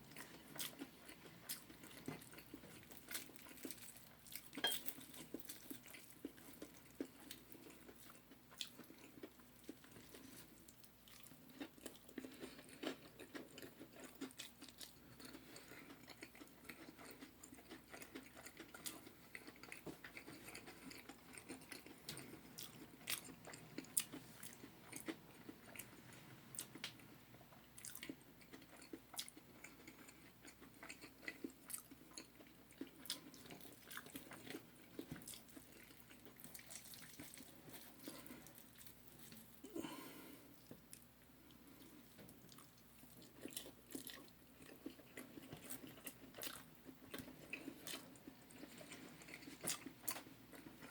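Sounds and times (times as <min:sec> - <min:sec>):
person chewing crunchy food: 0:00.0 - 0:50.9.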